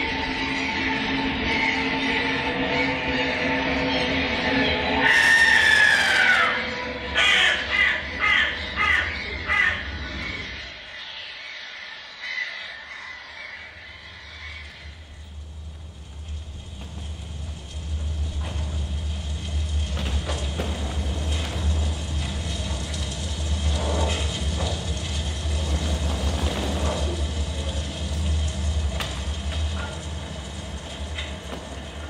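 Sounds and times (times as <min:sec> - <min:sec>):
low mechanical rumble with clanking: 0:00.0 - 0:10.8, 0:12.6 - 0:32.0.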